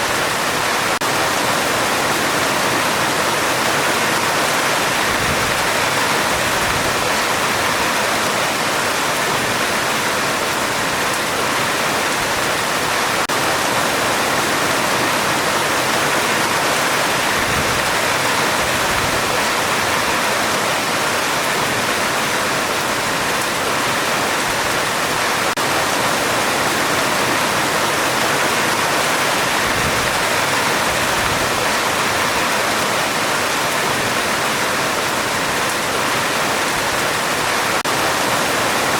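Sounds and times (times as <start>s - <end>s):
heavy rain on metal roof: 0.0s - 38.9s.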